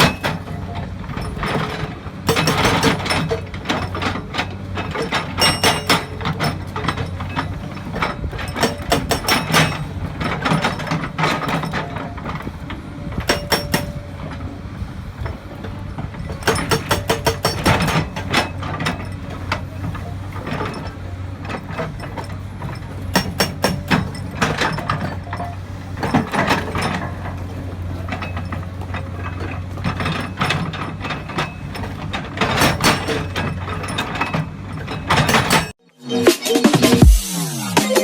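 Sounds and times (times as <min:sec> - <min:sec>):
excavator engine running: 0:00.0 - 0:38.0.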